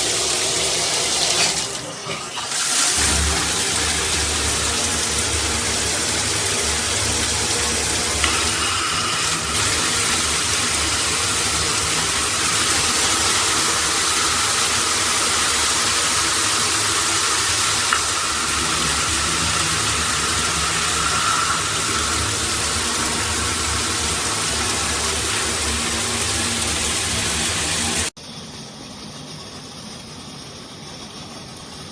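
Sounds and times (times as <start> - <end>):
shower head spraying water: 2.5 - 28.1.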